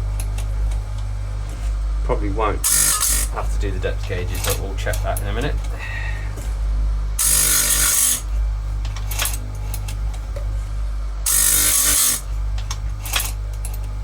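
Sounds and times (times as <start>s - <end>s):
chain grinder humming: 0.0s - 14.0s
grinding wheel on metal: 0.0s - 14.0s.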